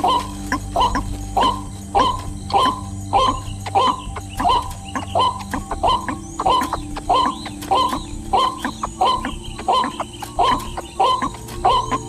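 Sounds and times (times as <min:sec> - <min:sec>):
animal yelping: 0:00.0 - 0:12.0
background music: 0:00.0 - 0:12.0.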